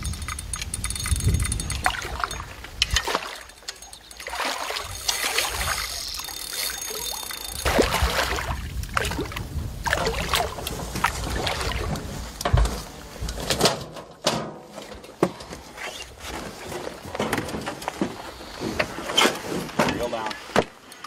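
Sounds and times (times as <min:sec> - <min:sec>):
water splashing and sloshing: 0:01.3 - 0:21.0.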